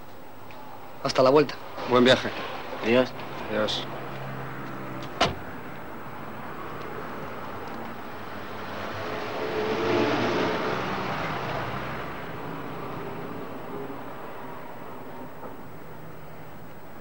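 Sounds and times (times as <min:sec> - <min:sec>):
street traffic noise: 0:00.0 - 0:17.0
vehicle passing: 0:00.6 - 0:17.0.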